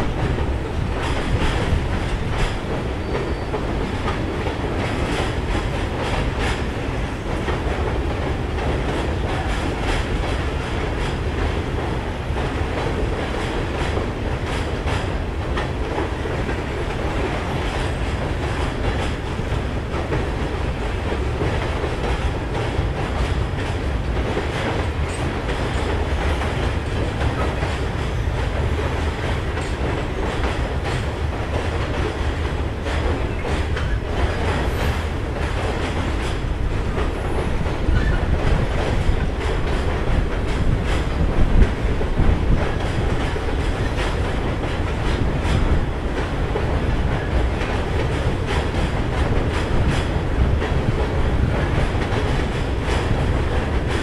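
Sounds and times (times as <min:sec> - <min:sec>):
rail joints clicking: 0:00.0 - 0:54.0
train wheels rumbling on bridge: 0:00.0 - 0:54.0.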